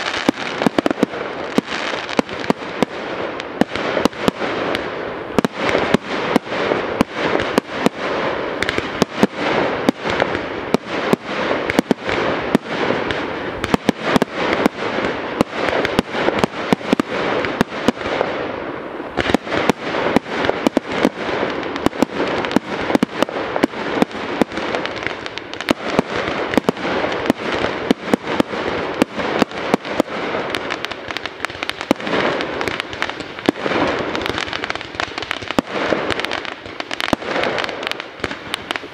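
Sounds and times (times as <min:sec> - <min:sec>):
crackle and hiss of sparks: 0:00.0 - 0:38.9
firework bangs: 0:00.0 - 0:38.9.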